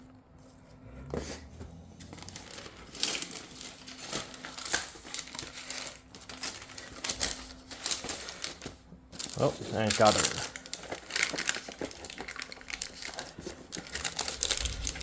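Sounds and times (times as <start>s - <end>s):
paper and packaging rustling: 0.4s - 15.0s.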